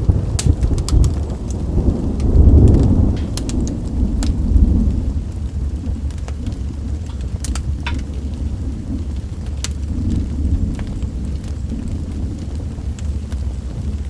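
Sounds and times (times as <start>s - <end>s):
rain: 0.0s - 14.0s
thunder rumbling: 0.0s - 14.0s
wood fire crackling: 0.0s - 14.0s.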